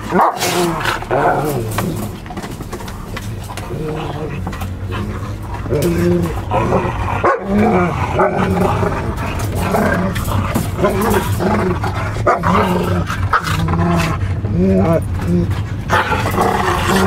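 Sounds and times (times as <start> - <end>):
dogs growling and snarling: 0.0 - 17.0
low hum: 0.0 - 17.0.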